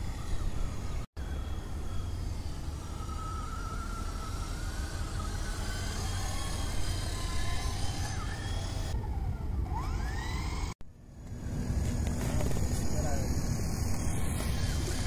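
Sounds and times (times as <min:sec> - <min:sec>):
rc helicopter motor whine: 0:00.0 - 0:15.0.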